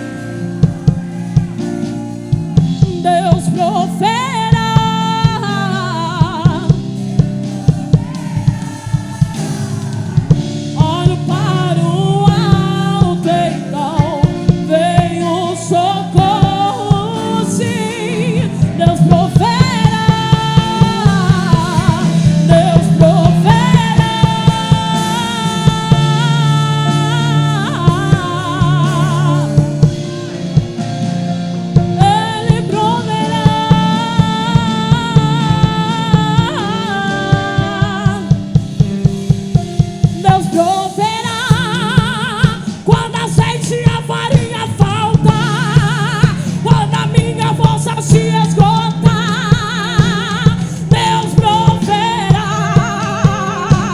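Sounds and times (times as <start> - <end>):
band playing gospel music: 0.0 - 53.9
drum kit beat: 0.0 - 53.9
woman singing: 0.0 - 53.9.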